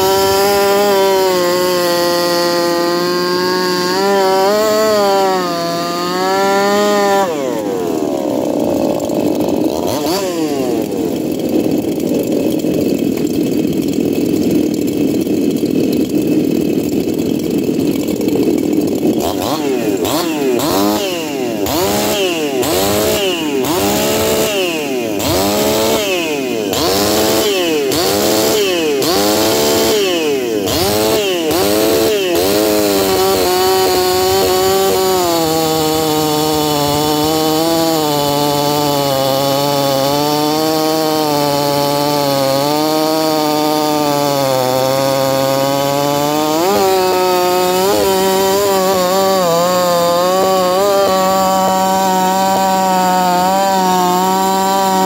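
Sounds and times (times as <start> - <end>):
chainsaw cutting through log: 0.0 - 55.0
chainsaw revving: 0.0 - 55.0.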